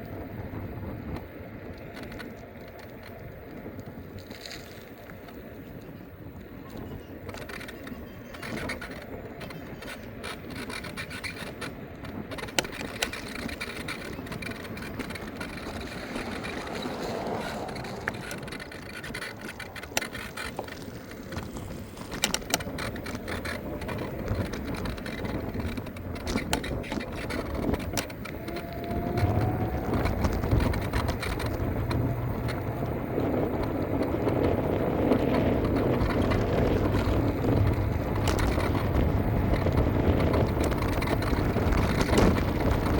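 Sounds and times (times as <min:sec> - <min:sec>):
tyre and road noise: 0:00.0 - 0:42.9
rattles and knocks over bumps: 0:07.2 - 0:42.9.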